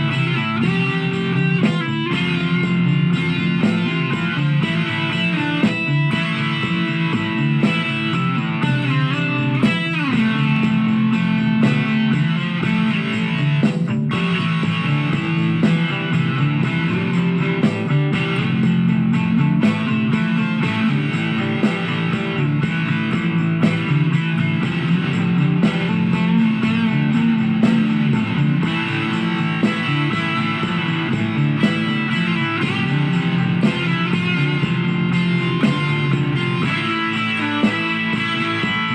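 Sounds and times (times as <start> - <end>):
electric guitar music: 0.0 - 38.9.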